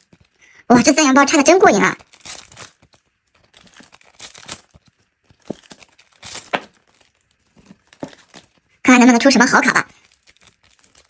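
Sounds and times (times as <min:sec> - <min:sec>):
foil wrappers crinkling: 0:00.0 - 0:08.8, 0:09.5 - 0:11.0.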